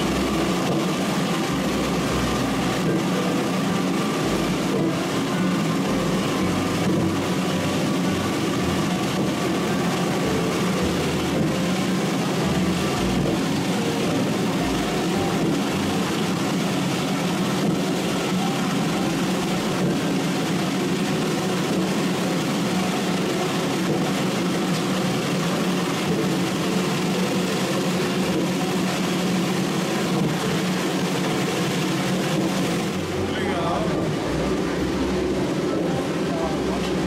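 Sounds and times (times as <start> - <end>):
vehicle engine and road noise: 0.0 - 37.0.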